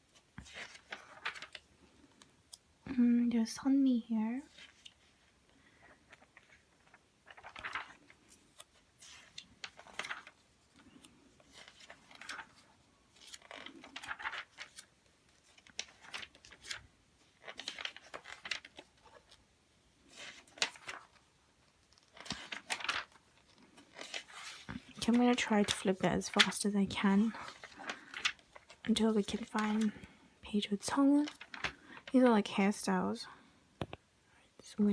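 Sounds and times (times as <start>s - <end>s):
magazine pages turning: 0.1s - 2.6s, 4.5s - 19.4s, 20.0s - 30.2s, 30.9s - 32.2s.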